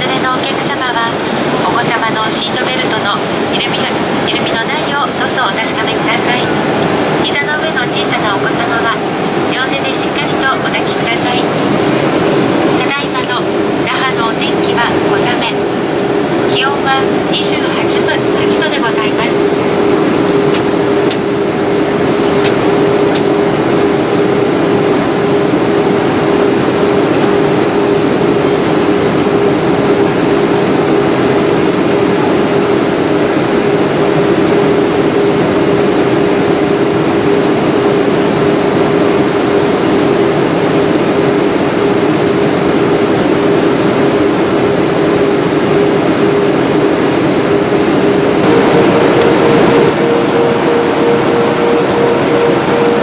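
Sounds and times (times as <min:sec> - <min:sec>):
jet engine drone in cabin: 0:00.0 - 0:53.0.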